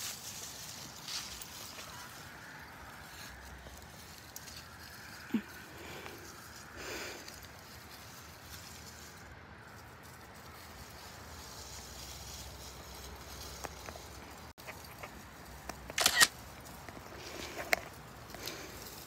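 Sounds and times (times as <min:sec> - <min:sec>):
faint rustles and ticks: 0:00.0 - 0:19.0.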